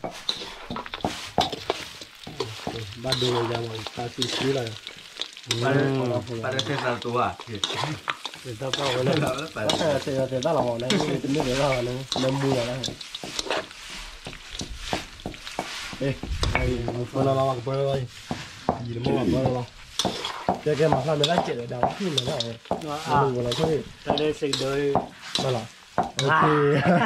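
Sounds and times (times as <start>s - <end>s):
frying sizzle: 0.0s - 27.0s
spatula scraping wok: 0.0s - 27.0s.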